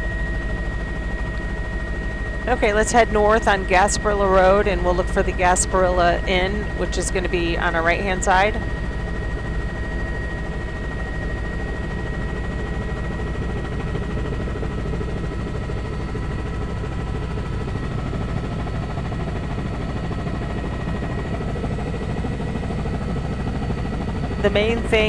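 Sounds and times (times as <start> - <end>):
helicopter engine whine: 0.0 - 25.0
helicopter rotor chop: 0.0 - 25.0.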